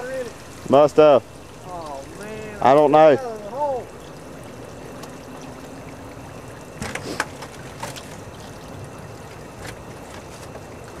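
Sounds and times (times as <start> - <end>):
muddy water trickling and sloshing: 0.0 - 11.0.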